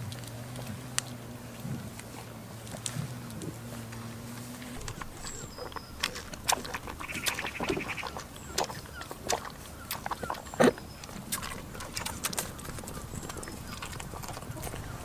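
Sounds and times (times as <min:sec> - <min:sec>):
goat slurping water: 0:00.0 - 0:15.0.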